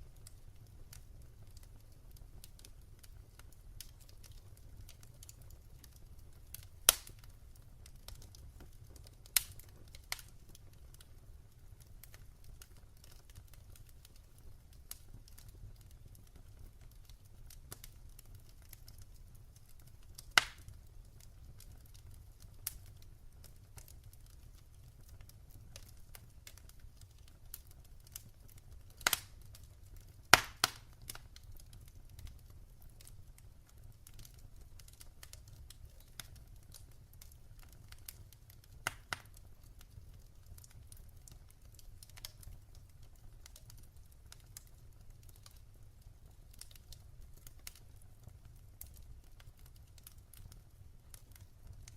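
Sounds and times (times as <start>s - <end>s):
fireplace fire crackling: 0.0s - 51.9s.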